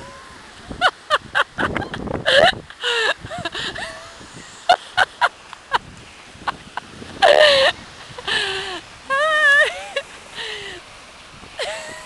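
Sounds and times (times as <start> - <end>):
woman laughing: 0.7 - 10.6, 11.6 - 12.0.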